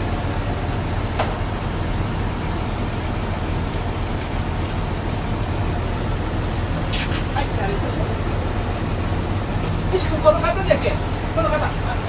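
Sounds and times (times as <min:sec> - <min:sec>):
bus cabin noise: 0:00.0 - 0:12.0
bus diesel engine running: 0:00.0 - 0:12.0.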